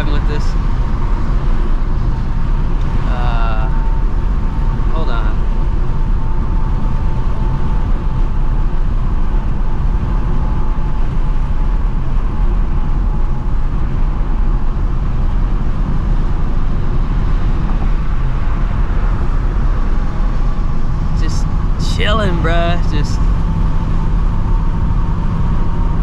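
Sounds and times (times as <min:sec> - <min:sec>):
car engine droning: 0:00.0 - 0:26.0
wind noise: 0:00.0 - 0:26.0.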